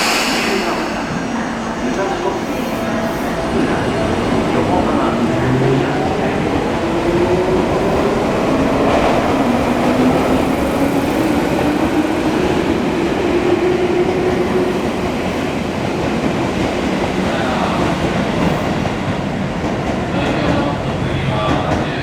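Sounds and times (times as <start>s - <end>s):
train rumble and rail noise: 0.0s - 22.0s.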